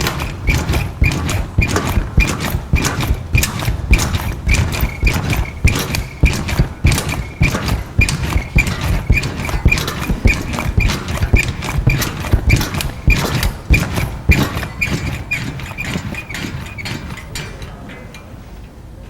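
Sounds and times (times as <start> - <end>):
trampoline bouncing thuds: 0.0 - 17.8
trampoline squeak: 0.0 - 17.8.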